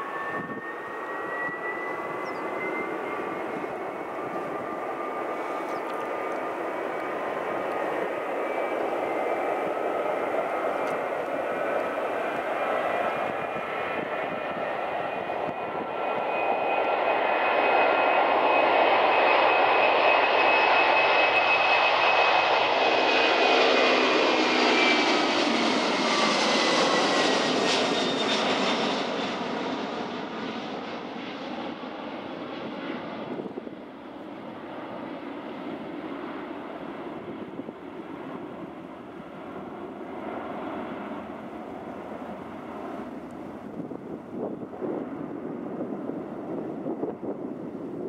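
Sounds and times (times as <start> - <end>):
jet engine whine: 0.0 - 48.0
jet roar: 0.0 - 48.0.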